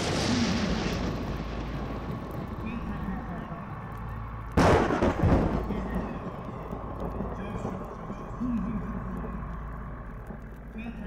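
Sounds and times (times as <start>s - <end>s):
loud boom: 0.0s - 10.8s
steady low rumble: 0.0s - 11.0s.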